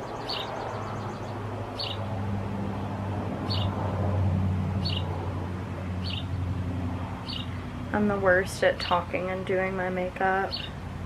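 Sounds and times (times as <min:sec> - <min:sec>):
birds chirping: 0:00.0 - 0:04.0, 0:04.7 - 0:05.2, 0:05.8 - 0:10.9.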